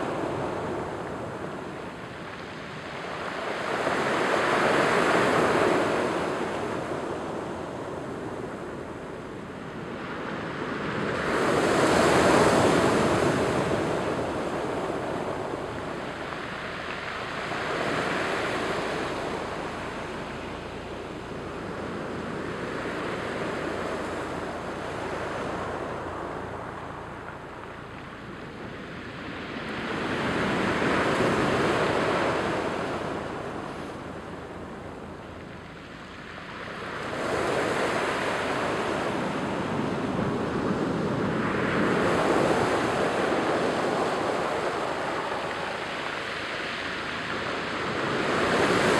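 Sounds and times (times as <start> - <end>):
surf washing over pebble beach: 0.0 - 48.9.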